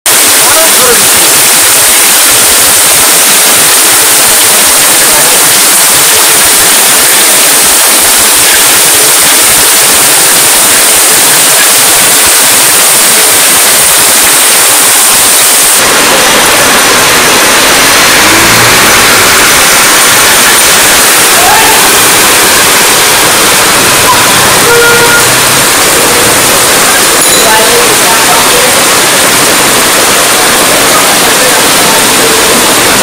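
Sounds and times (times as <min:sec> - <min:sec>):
heavy rain splashing on water: 0:00.2 - 0:33.0.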